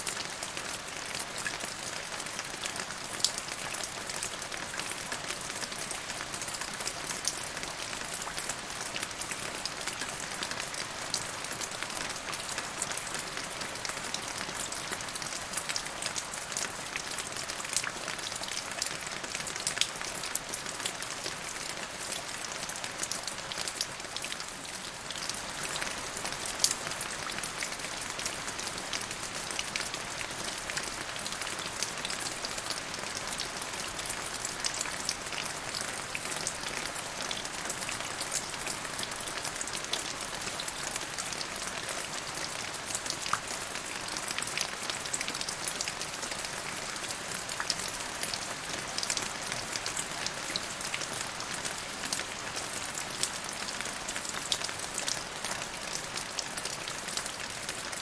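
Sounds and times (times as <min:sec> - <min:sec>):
rain drops ticking on a surface: 0:00.0 - 0:58.0.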